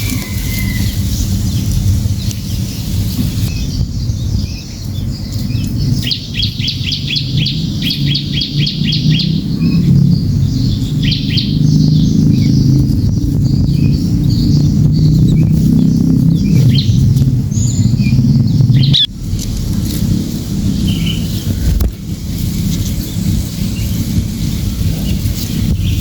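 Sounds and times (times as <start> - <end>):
small bird chattering: 0.0 - 21.8
steady low rumble: 0.0 - 26.0.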